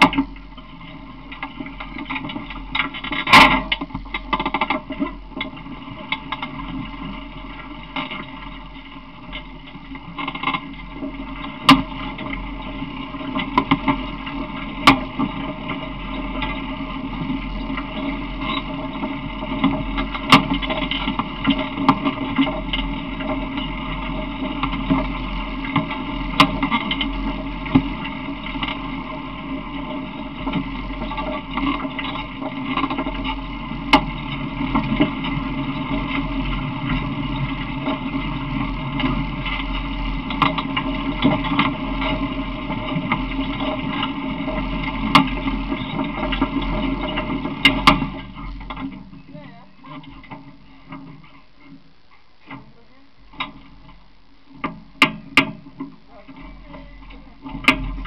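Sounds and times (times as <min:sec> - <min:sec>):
vehicle rumbling over rough pavement: 0:00.0 - 0:58.0.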